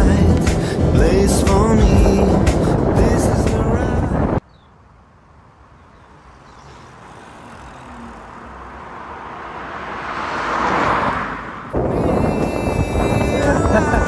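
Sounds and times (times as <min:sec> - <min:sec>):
tyre and road noise: 0:00.0 - 0:14.0.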